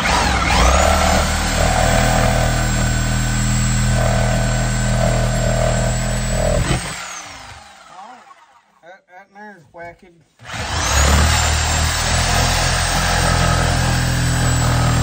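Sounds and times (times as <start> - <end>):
power tool whining: 0.0 - 8.8, 10.4 - 15.0.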